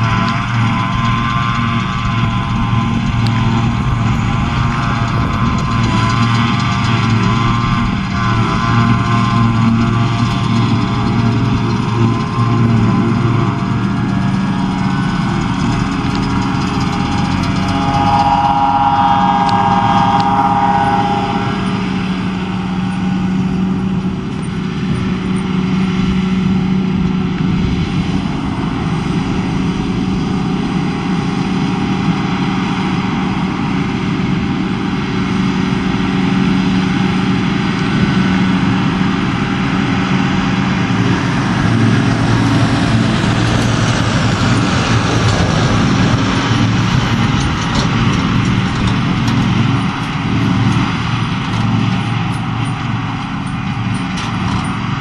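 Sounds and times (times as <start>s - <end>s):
forage harvester running under load: 0.0s - 55.0s
high whine: 0.0s - 55.0s
tractor engine: 0.0s - 55.0s.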